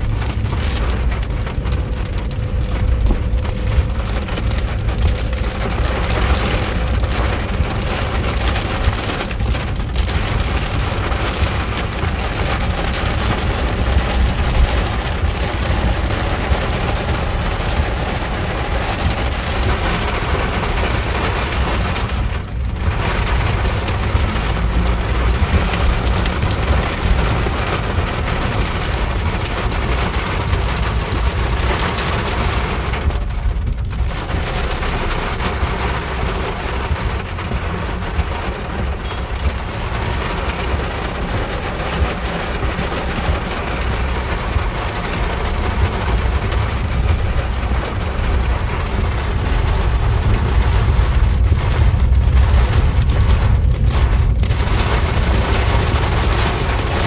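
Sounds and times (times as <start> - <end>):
car rumble and tyres on wet road: 0.0 - 57.0
heavy rain on car: 0.0 - 57.0.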